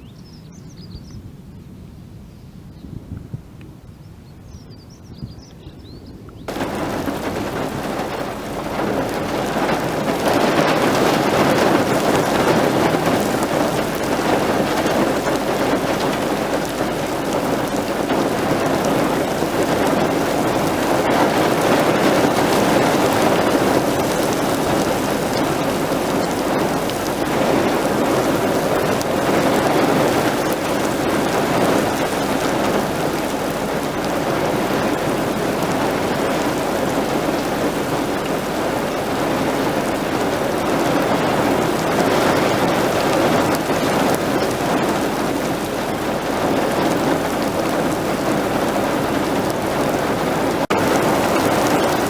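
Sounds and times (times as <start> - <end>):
heavy rain falling: 6.5 - 52.0.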